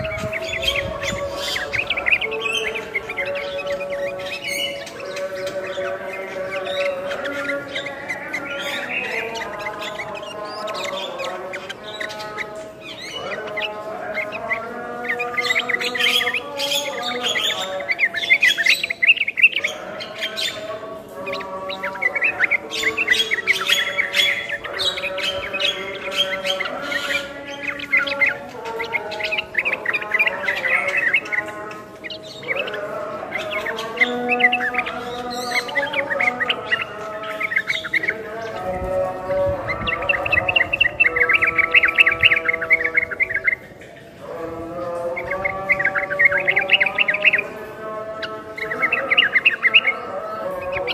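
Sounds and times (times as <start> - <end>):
myna calling and chattering: 0.0 - 50.9.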